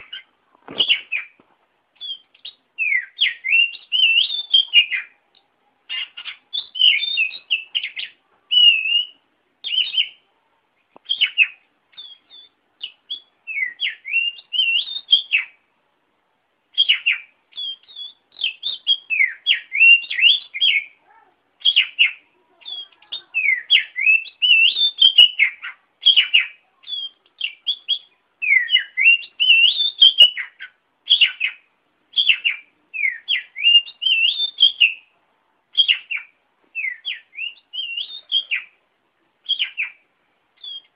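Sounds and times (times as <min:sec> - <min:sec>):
bird singing whistled notes: 0:00.0 - 0:01.4, 0:02.0 - 0:10.2, 0:11.0 - 0:15.6, 0:16.7 - 0:21.0, 0:21.6 - 0:35.1, 0:35.7 - 0:38.8, 0:39.4 - 0:40.9.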